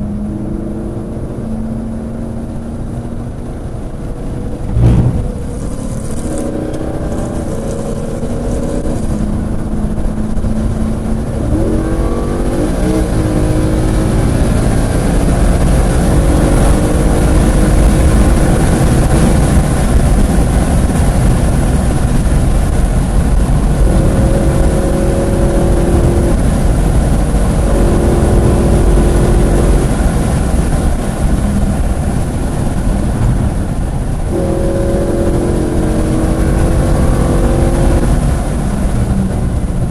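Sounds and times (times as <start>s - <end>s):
car engine running hard: 0.0s - 39.9s
wind and tyre noise: 0.0s - 39.9s.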